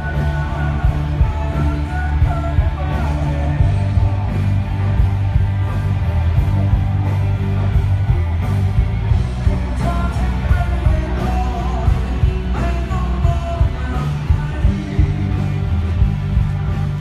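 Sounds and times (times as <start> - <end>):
electric guitar: 0.0 - 17.0
heavy bass line: 0.0 - 17.0.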